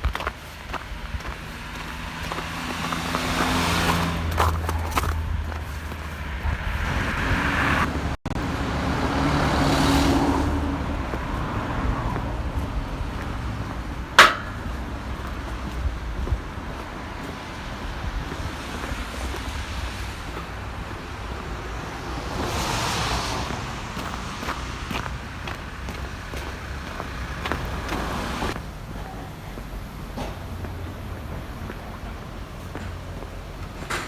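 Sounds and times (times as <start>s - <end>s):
cars passing on a street: 0.0s - 34.0s.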